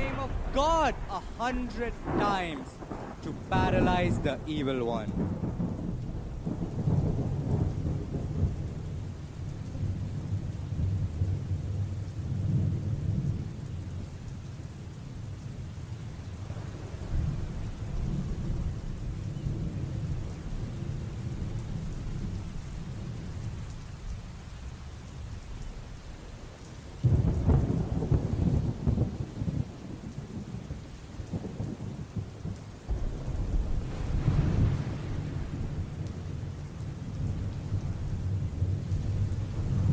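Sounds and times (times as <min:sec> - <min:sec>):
rolling thunder: 0:00.0 - 0:14.0, 0:16.3 - 0:23.6, 0:27.0 - 0:39.9
steady rain: 0:00.0 - 0:39.9.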